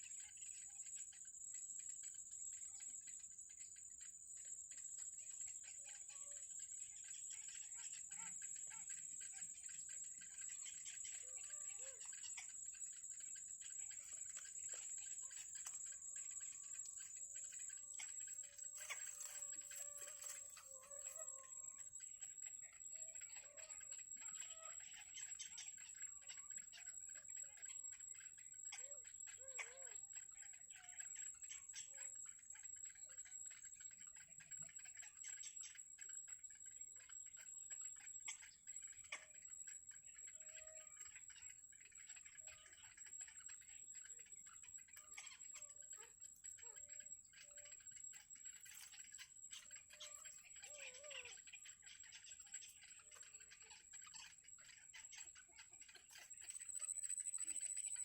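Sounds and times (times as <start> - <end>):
small ticks: 0.0 - 58.0.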